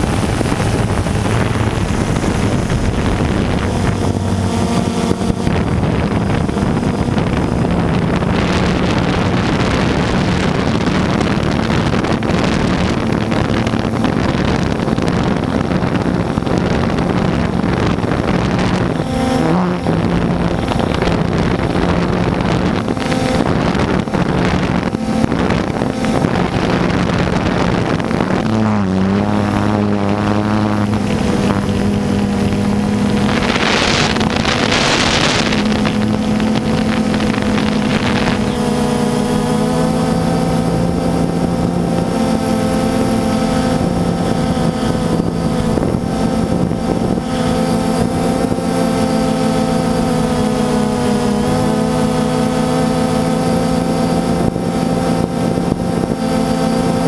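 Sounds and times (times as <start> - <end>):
drone motors humming: 0.0 - 57.0
wind rushing across microphone: 0.0 - 57.0.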